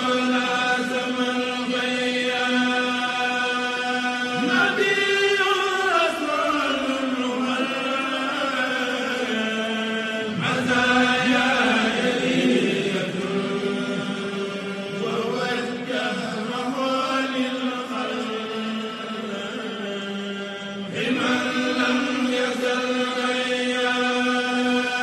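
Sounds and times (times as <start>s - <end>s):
man chanting into a microphone: 0.0s - 25.0s.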